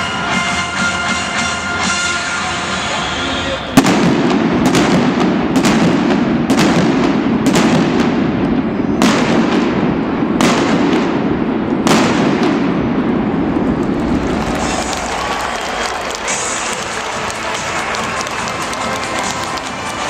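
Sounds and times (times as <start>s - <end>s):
crowd din: 0.0s - 8.8s, 9.8s - 20.0s
fireworks bangs echoing: 3.7s - 20.0s.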